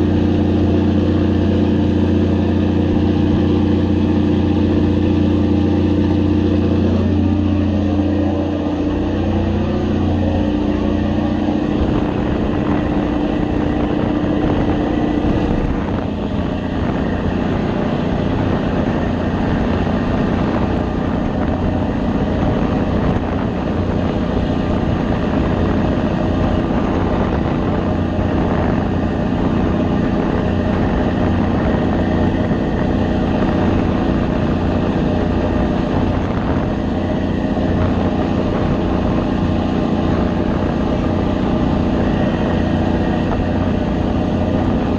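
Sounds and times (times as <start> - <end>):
boat engine droning: 0.0 - 44.9
water rushing in wake: 0.0 - 44.9.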